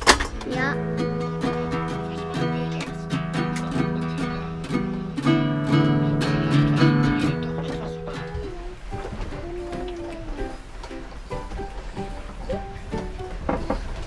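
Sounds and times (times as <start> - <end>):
classical guitar strumming chords: 0.0 - 14.0.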